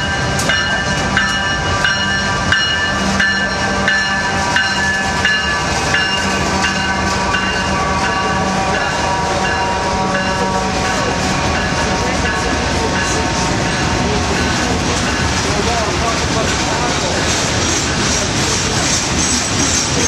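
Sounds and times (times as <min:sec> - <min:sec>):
diesel locomotive engine rumble: 0:00.0 - 0:20.0.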